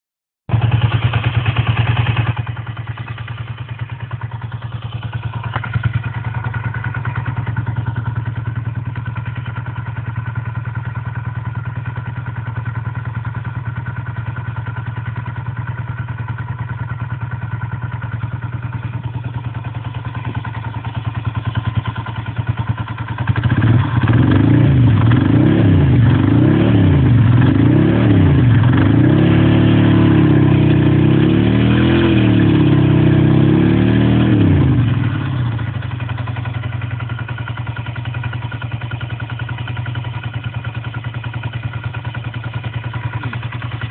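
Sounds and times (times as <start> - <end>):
motorcycle engine idling and revving: 0.5 - 43.9.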